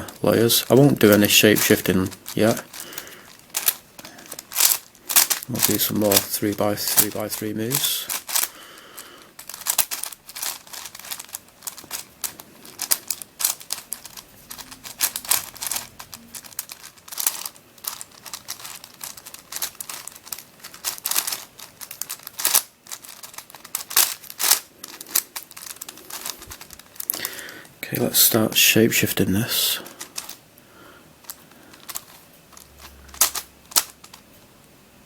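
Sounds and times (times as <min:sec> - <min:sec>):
puzzle cube clicks and scrapes: 0:00.0 - 0:28.2, 0:29.4 - 0:30.4, 0:31.2 - 0:34.4.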